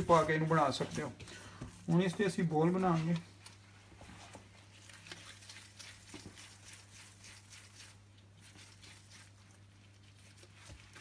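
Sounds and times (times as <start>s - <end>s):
hands squishing food mixture: 0.0s - 11.0s
soft rustles: 0.0s - 11.0s.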